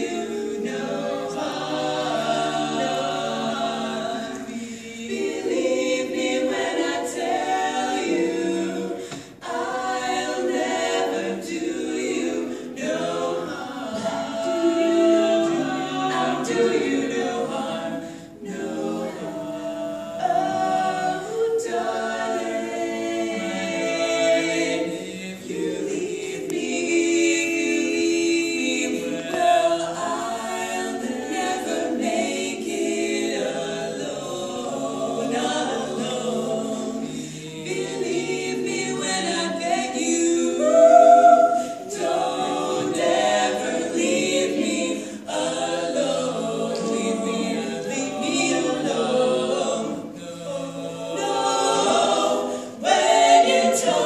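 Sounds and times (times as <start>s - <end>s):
women singing in harmony: 0.0s - 54.0s.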